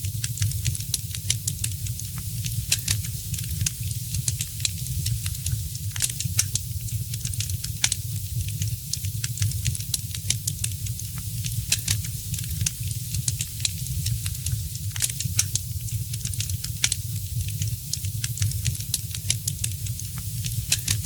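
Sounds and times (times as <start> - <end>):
low fire rumble: 0.1 - 21.0
wood fire crackling and popping: 0.1 - 21.0.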